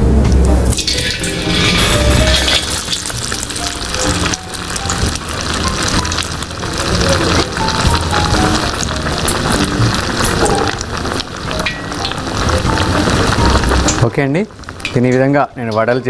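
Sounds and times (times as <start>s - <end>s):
soft background music: 0.0s - 16.0s
food sizzling in hot oil: 0.6s - 15.8s.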